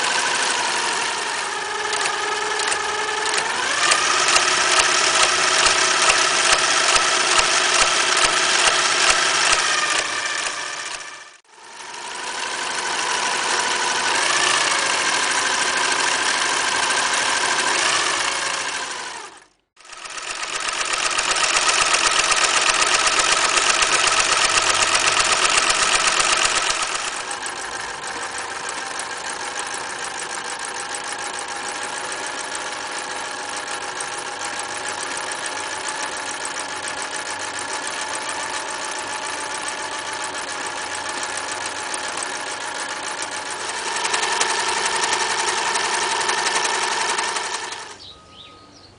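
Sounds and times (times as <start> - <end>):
sewing machine running: 0.0 - 48.1.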